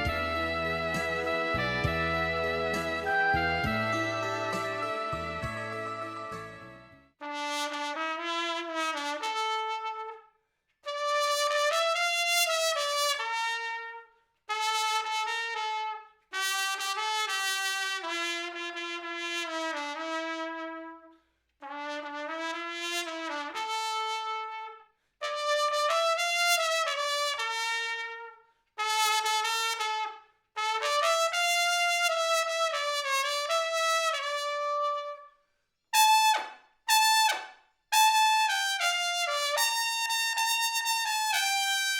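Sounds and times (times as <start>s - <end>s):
solo trumpet melody: 0.0s - 10.3s, 10.9s - 35.3s, 36.0s - 41.9s.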